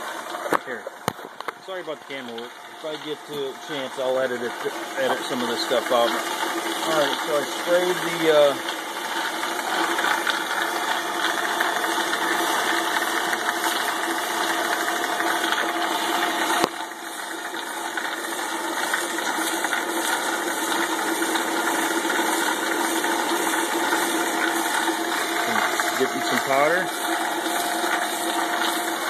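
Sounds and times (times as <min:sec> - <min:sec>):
ball mill motor hum: 0:00.0 - 0:29.0
rattle of turning drums: 0:00.0 - 0:29.0.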